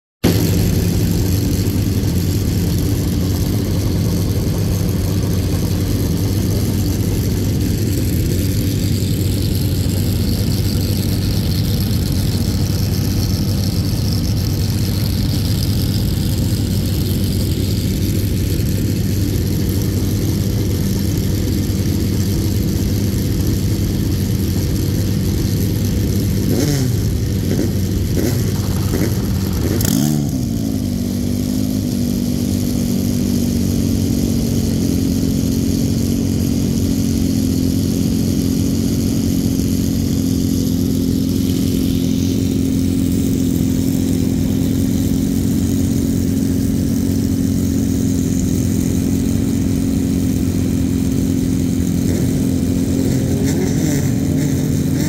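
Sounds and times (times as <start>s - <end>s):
engine revving: 0.2s - 55.0s
race car engine idling: 0.2s - 55.0s.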